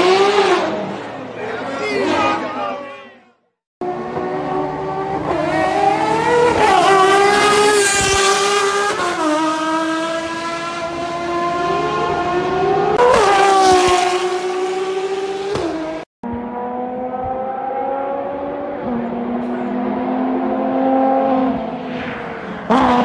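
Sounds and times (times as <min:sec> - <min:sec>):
racing car engine revving through gears: 0:00.0 - 0:00.9, 0:03.8 - 0:21.8.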